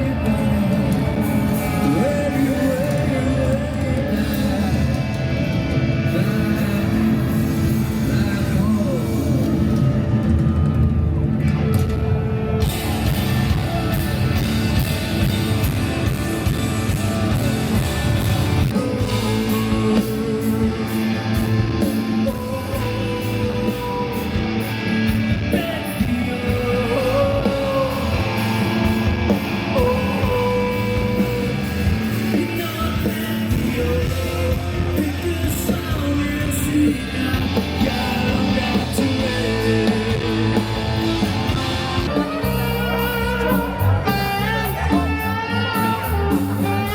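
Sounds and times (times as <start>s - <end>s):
lead vocal singing: 0.0s - 10.8s, 13.0s - 46.9s
drums: 0.0s - 46.9s
electric guitars: 0.0s - 46.9s.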